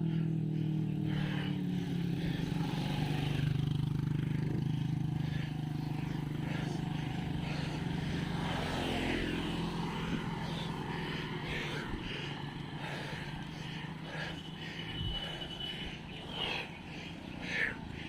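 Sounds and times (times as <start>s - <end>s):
road and wind noise: 0.0s - 18.0s
vehicle engine droning: 0.0s - 18.0s.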